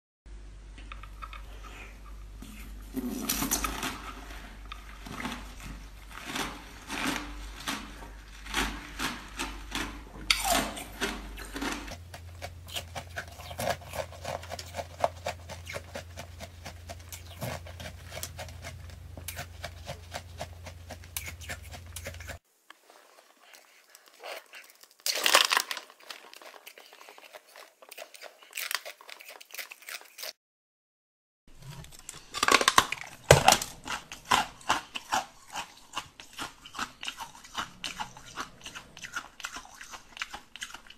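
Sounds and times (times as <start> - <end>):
ice crunching between teeth: 2.5 - 30.4, 31.6 - 40.9.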